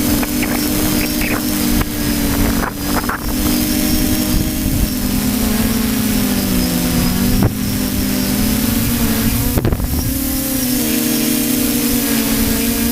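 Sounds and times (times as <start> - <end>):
model aircraft motor buzzing: 0.0 - 12.9
wind on microphone: 0.0 - 12.9.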